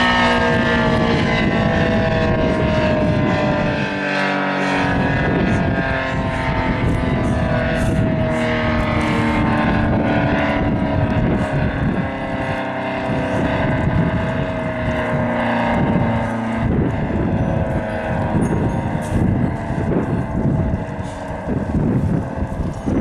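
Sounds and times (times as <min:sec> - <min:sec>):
warning siren steady tone: 0:00.0 - 0:23.0
wind buffeting microphone: 0:00.0 - 0:23.0.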